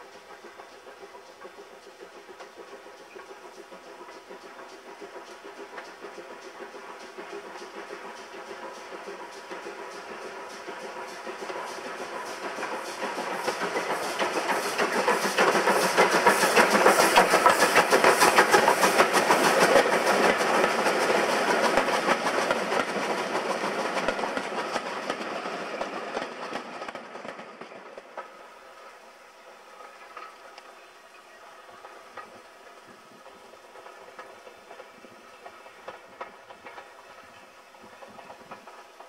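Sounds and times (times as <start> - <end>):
steam train passing: 0.0 - 39.0.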